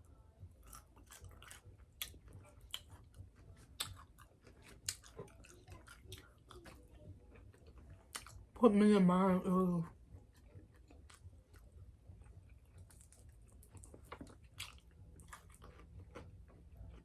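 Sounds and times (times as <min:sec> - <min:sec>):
person chewing crispy food: 0:00.5 - 0:08.6, 0:09.9 - 0:17.0.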